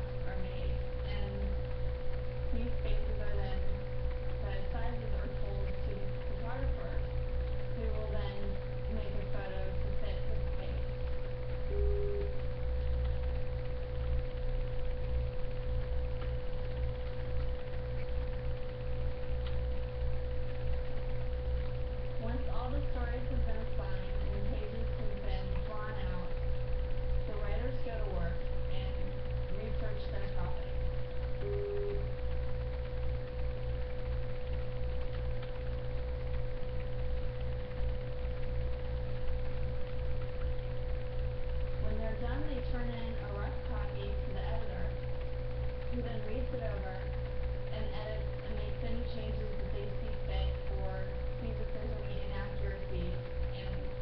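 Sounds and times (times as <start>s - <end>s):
low hum: 0.0s - 54.0s
steady pure tone: 0.0s - 54.0s.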